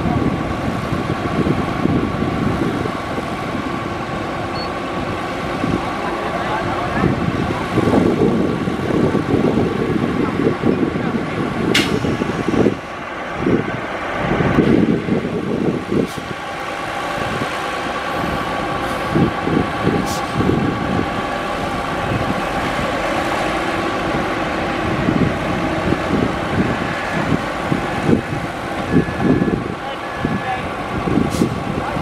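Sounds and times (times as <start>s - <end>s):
heavy diesel machinery running: 0.0s - 32.0s.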